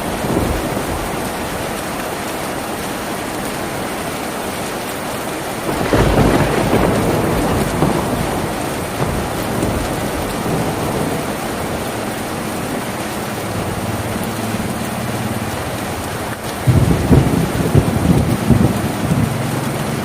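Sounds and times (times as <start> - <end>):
rain drumming on a tin roof: 0.0 - 20.0.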